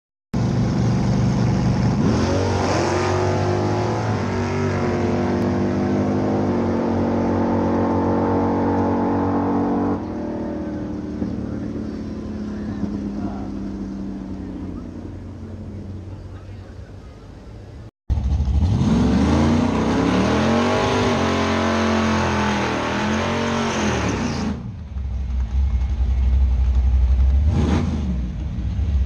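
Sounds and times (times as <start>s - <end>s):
race car engine accelerating: 1.3s - 16.6s, 18.1s - 28.5s.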